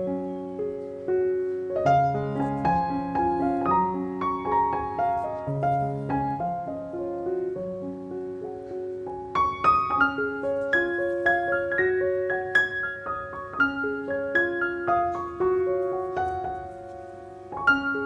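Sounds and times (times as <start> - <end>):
slow solo piano music: 0.0 - 18.0.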